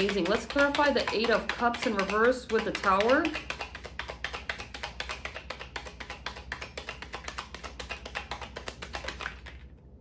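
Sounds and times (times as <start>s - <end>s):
cards being shuffled: 0.0s - 9.8s.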